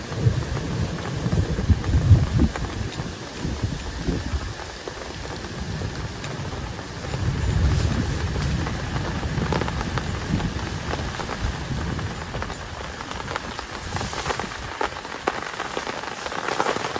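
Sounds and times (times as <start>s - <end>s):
heavy rain falling: 0.0s - 16.9s
sharp rain drop clicks: 0.0s - 16.9s.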